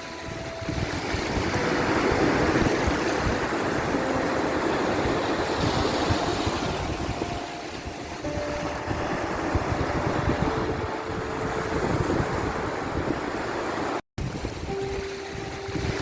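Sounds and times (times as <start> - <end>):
sea wave washing: 0.0 - 16.0.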